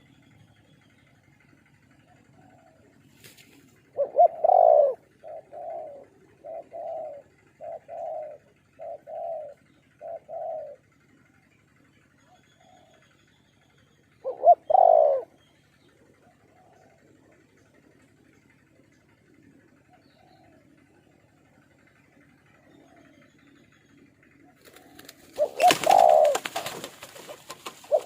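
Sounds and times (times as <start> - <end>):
dove cooing: 1.5 - 11.2, 12.3 - 13.1, 14.1 - 18.4, 19.3 - 28.0.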